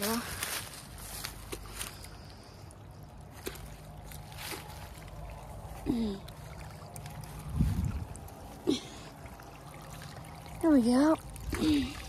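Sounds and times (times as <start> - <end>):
footsteps in wet undergrowth: 0.0 - 10.4
creek trickling: 0.0 - 12.0.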